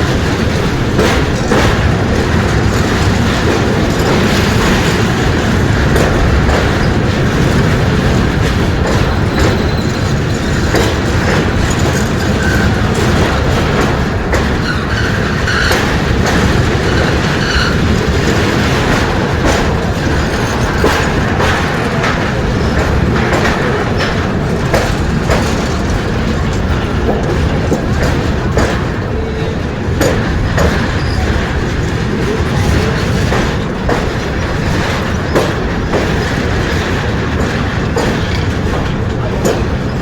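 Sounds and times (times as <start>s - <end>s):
train wheels rumbling on rails: 0.0s - 40.0s
wheels clacking over rail joints: 0.0s - 40.0s.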